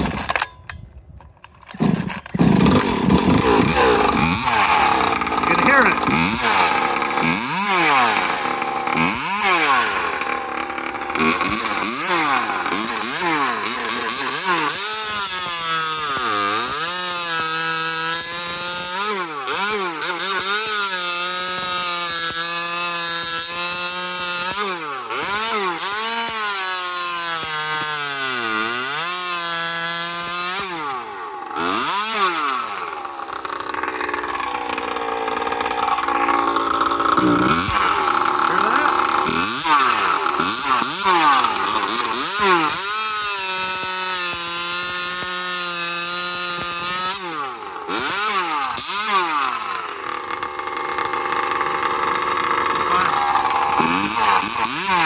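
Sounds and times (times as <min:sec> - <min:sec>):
chainsaw revving: 0:00.0 - 0:00.5, 0:01.4 - 0:55.0.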